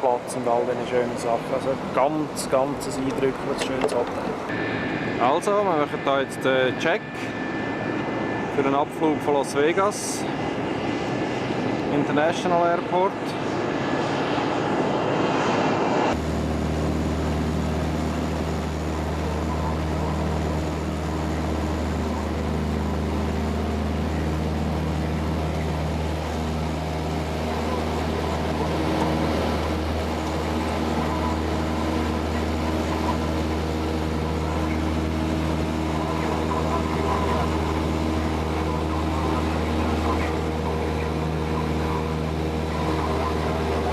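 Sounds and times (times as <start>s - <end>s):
piston aircraft engine droning: 0.0s - 43.9s.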